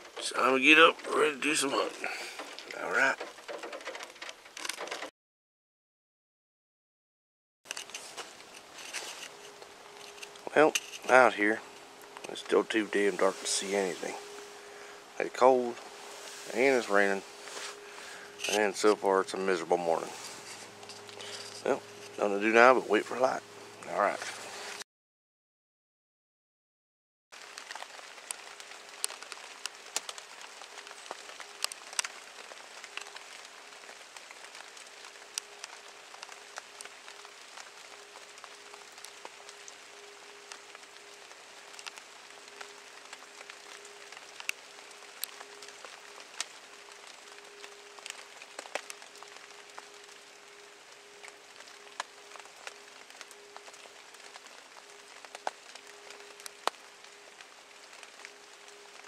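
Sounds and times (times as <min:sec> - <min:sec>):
rain hissing: 0:00.0 - 0:05.1, 0:07.7 - 0:24.8, 0:27.4 - 0:59.0.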